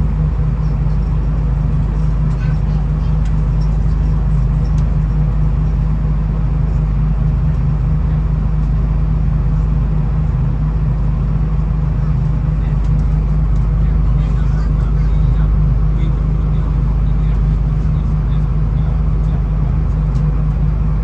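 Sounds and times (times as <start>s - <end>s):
diesel railcar engine drone: 0.0s - 21.0s.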